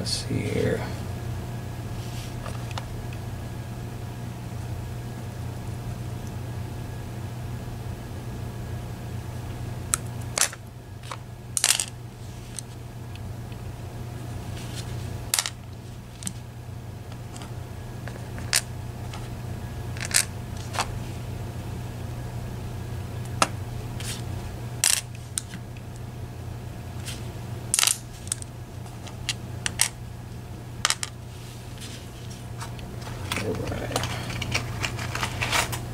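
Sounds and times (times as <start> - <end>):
low hum: 0.0 - 35.9.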